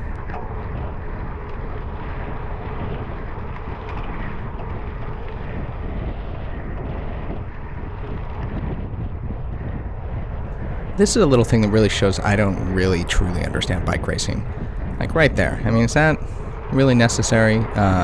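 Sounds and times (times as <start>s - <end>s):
low rumble of bike ride: 0.0s - 18.0s
wind rushing over microphone: 0.0s - 18.0s.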